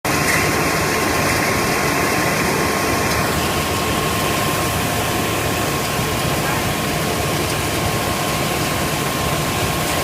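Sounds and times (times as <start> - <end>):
stone crusher machine running: 0.1 - 10.0.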